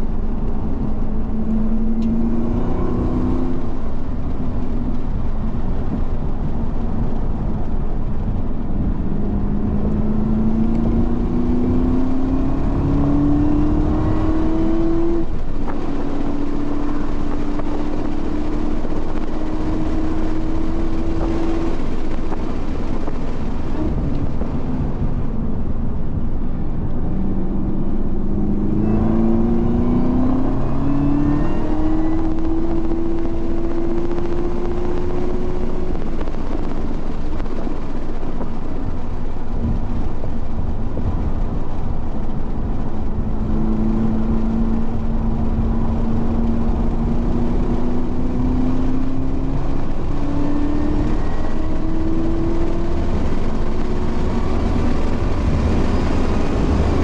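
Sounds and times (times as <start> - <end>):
race car engine at full throttle: 0.0 - 57.0
road and wind noise: 0.0 - 57.0.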